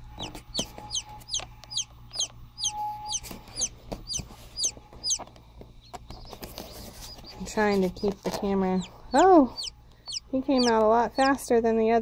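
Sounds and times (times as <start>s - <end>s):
chicks peeping: 0.0s - 11.5s
low steady hum: 0.0s - 12.0s.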